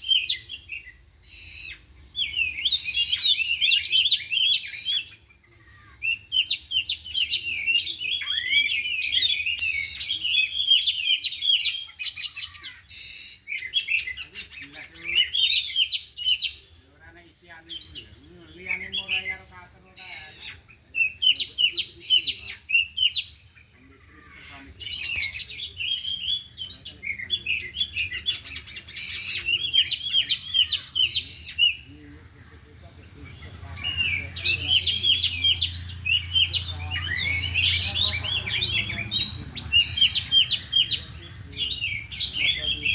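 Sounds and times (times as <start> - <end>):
magpie-robins singing: 0.0 - 42.9.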